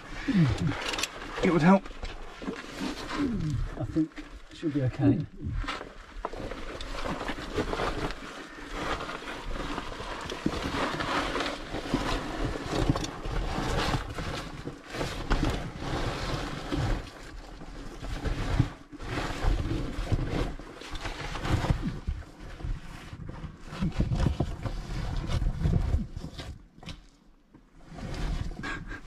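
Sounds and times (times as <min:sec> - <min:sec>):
oversuit rustling and scraping: 0:00.0 - 0:29.0.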